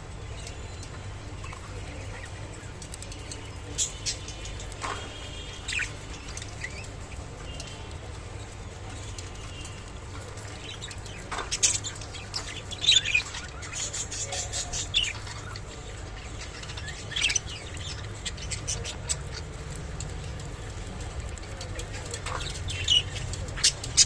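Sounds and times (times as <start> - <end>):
clicks and rustles: 0.1 - 24.0.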